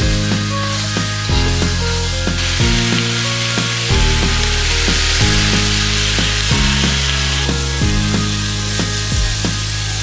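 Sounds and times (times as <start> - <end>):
background music: 0.0 - 10.0
chicken sizzling in a wok: 0.0 - 10.0.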